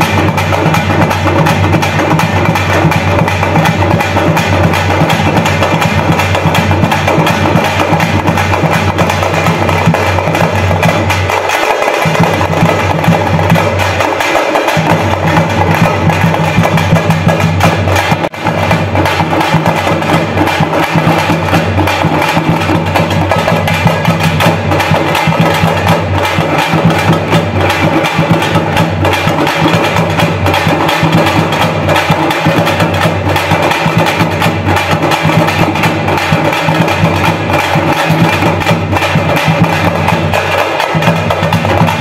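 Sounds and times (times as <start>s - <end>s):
frame drums beaten with sticks: 0.0s - 42.0s.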